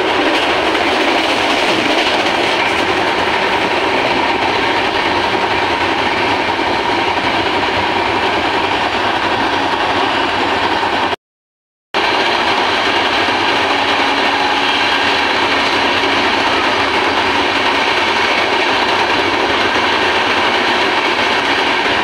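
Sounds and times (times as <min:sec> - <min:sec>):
passing train alongside: 0:00.0 - 0:11.2, 0:12.0 - 0:22.0
train running on rails: 0:00.0 - 0:11.2, 0:12.0 - 0:22.0.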